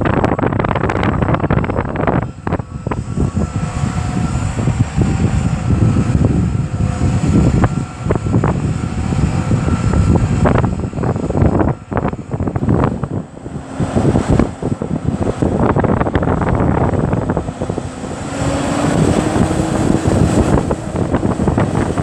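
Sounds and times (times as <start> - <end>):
tractor engine running: 0.0 - 22.0
wind buffeting microphone: 0.0 - 22.0.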